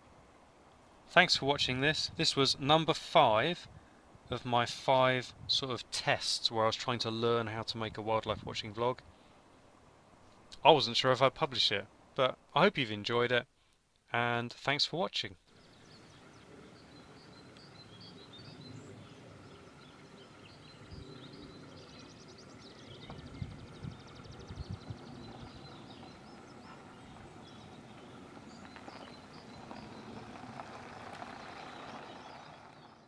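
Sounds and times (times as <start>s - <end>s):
low background hiss and rumble: 0.0s - 33.0s
small birds chirping faintly: 0.0s - 33.0s.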